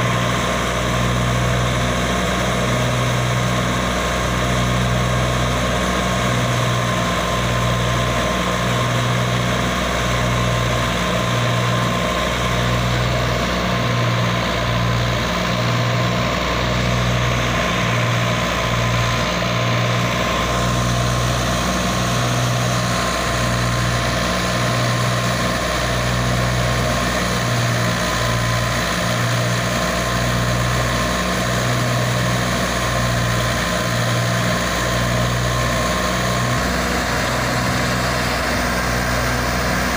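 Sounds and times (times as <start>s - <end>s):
steady high whine: 0.0s - 39.9s
tractor diesel engine running: 0.0s - 39.9s.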